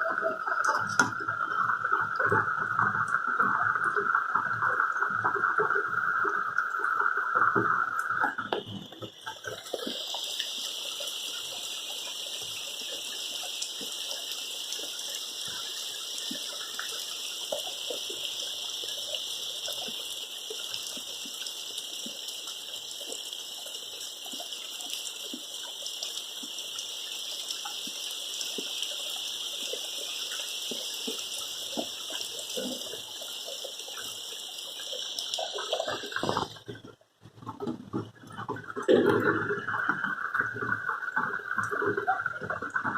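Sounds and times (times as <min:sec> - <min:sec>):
steady rain hiss: 0:00.0 - 0:36.7
drops ticking: 0:00.0 - 0:42.9.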